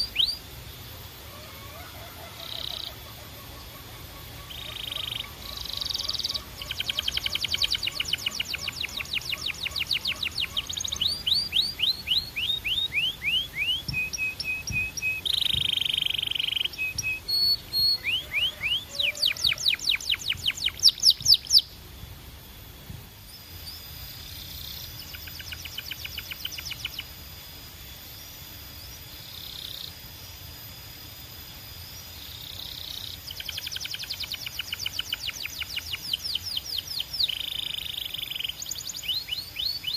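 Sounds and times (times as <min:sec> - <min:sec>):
canary singing trills: 0:00.0 - 0:21.8, 0:23.2 - 0:39.9.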